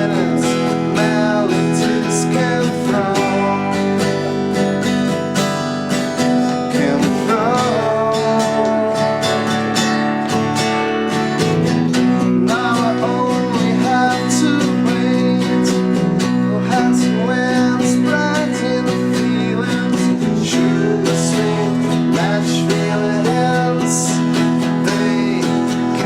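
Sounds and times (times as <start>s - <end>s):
person singing: 0.0s - 10.6s, 11.9s - 26.0s
strummed guitars: 0.0s - 26.0s.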